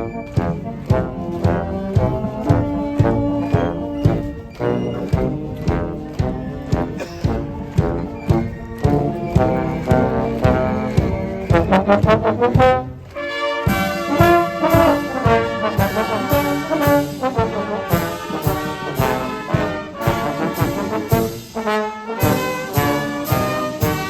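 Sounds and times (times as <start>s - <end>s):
military marching band: 0.0s - 24.0s.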